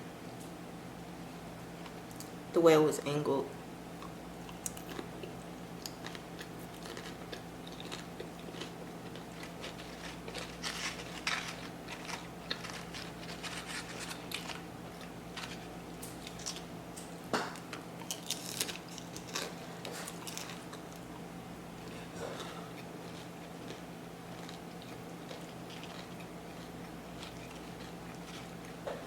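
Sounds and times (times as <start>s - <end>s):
chewing crunchy chips: 3.9s - 29.0s.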